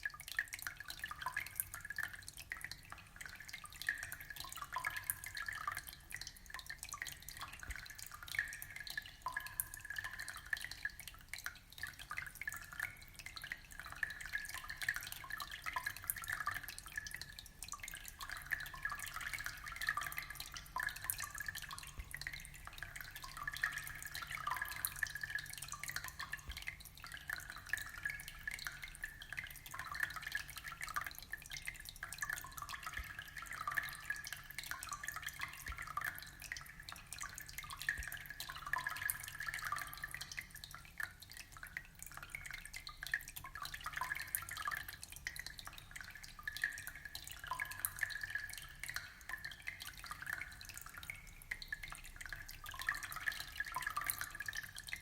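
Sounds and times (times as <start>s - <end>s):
aquarium water trickling: 0.0s - 55.0s.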